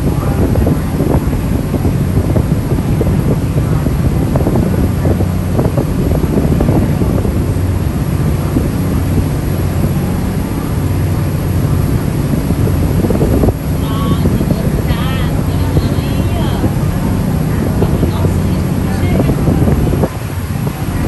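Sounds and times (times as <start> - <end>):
ferry engines humming: 0.0 - 21.0
wind buffeting microphone: 0.0 - 21.0.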